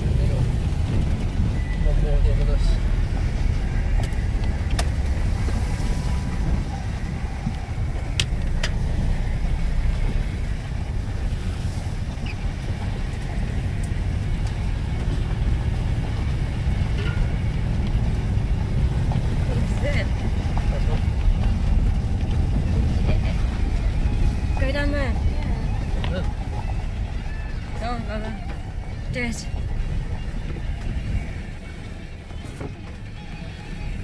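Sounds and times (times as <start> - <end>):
engine and road rumble: 0.0 - 34.0.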